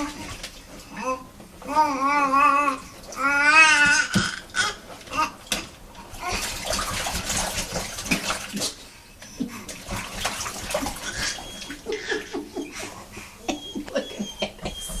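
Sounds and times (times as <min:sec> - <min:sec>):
bathwater splashing: 0:00.0 - 0:13.7.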